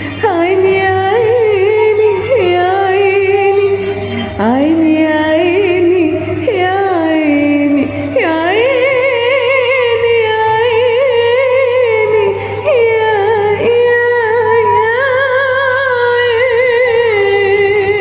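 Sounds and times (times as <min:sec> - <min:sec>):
woman singing with vibrato: 0:00.0 - 0:18.0.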